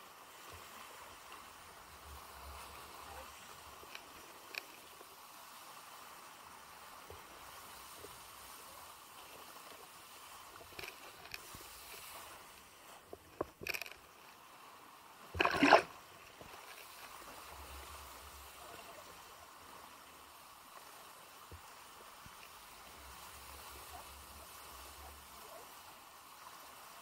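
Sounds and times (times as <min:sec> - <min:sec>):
water rushing under kiteboard: 0:00.0 - 0:27.0
water splashes: 0:00.0 - 0:27.0.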